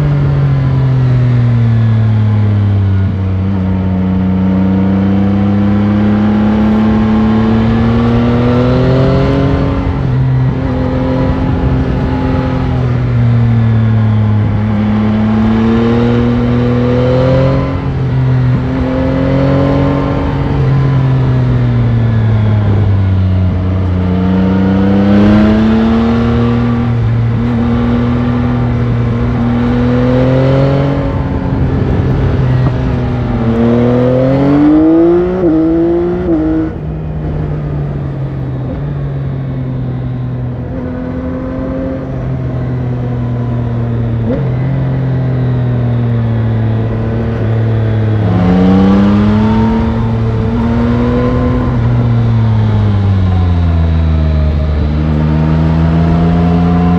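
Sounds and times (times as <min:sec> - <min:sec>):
motorcycle engine: 0:00.0 - 0:56.9
wind noise: 0:00.0 - 0:56.9.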